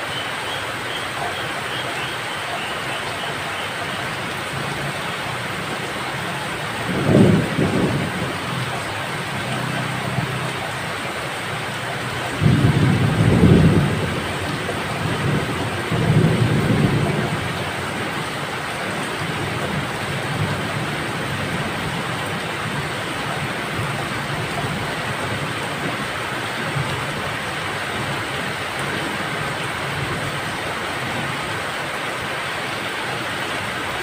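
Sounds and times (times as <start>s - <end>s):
heavy rain hissing: 0.0s - 34.0s.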